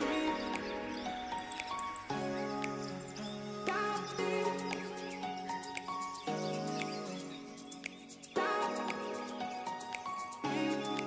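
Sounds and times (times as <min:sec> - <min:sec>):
background music with held chords: 0:00.0 - 0:11.0.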